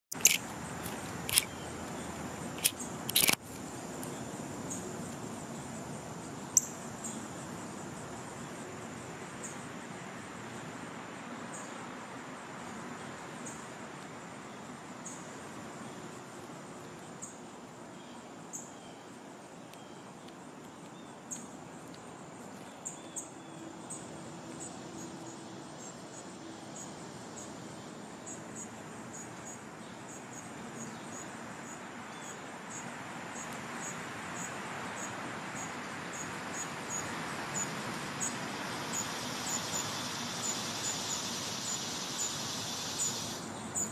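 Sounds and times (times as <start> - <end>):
steady background hiss: 0.1 - 43.9.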